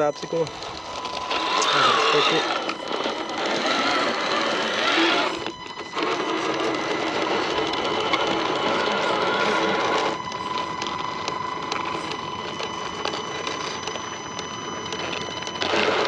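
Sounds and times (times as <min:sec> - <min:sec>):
rc car motor whirring: 0:00.0 - 0:16.0.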